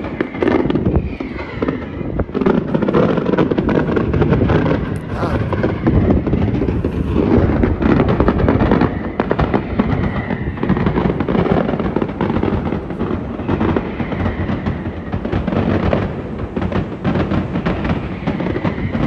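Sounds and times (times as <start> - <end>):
firecrackers rattling: 2.4 - 19.0.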